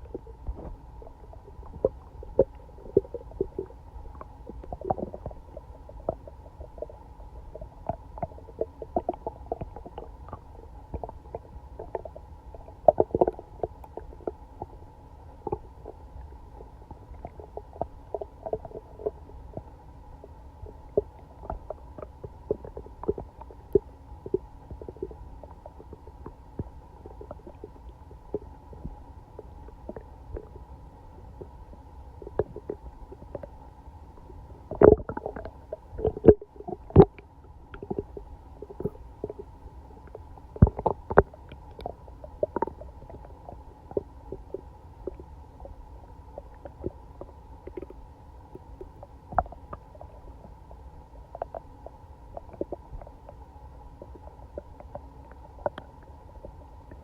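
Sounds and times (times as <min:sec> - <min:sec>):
stomach gurgling: 0:00.0 - 0:57.0.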